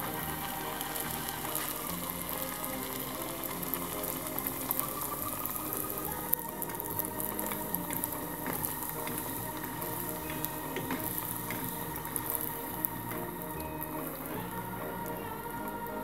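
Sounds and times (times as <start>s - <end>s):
food sizzling in hot oil: 0.0s - 16.0s
soft background music: 0.0s - 16.0s.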